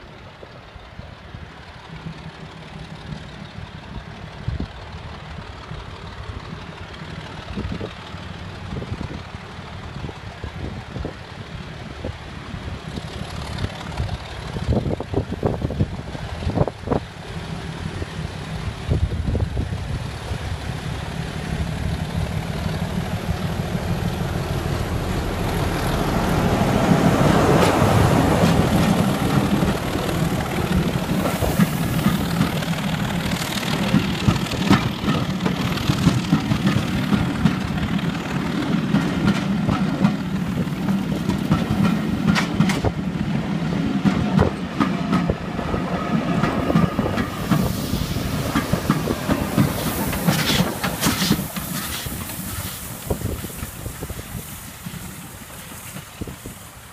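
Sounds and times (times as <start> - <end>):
diesel locomotive engine pulling: 0.0 - 56.9
train wheels clicking over rail joints: 0.3 - 56.9.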